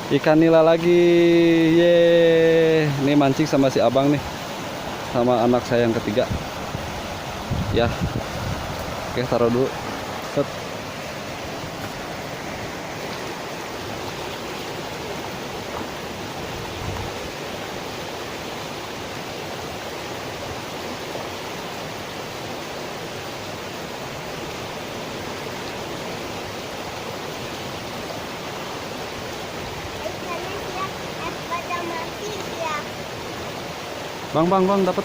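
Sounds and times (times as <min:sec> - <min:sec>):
flowing water rushing: 0:00.0 - 0:35.0.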